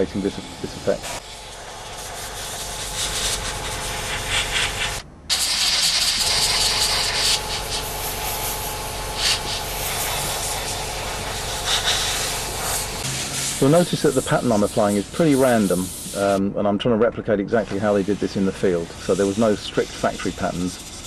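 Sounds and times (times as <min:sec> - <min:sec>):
airbrush spraying hiss: 0:00.0 - 0:16.4, 0:17.7 - 0:21.0.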